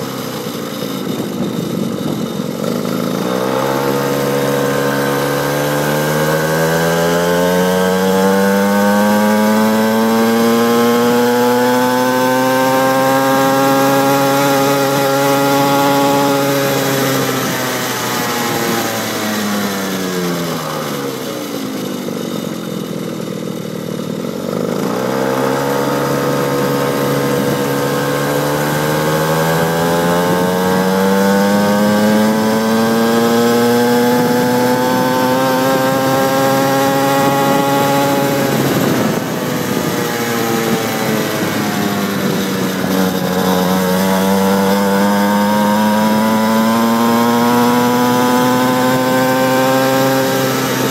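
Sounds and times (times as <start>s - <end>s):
small motorbike engine buzzing: 0.0s - 50.9s.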